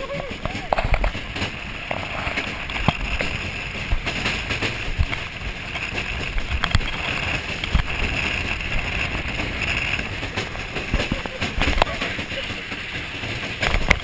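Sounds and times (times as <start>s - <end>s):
sled knocking: 0.0s - 14.0s
sled wheels rolling on concrete: 0.0s - 14.0s.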